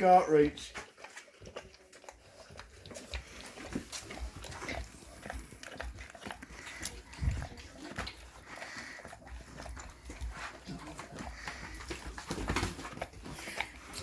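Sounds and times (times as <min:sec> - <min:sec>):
dogs licking wetly: 0:00.0 - 0:14.0.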